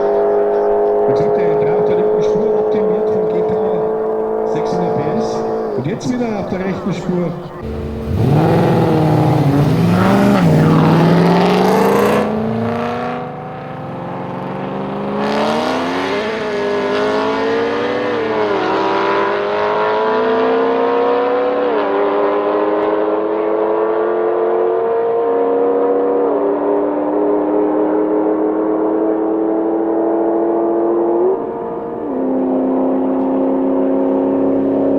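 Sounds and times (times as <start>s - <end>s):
car engine accelerating hard: 0.0s - 34.9s.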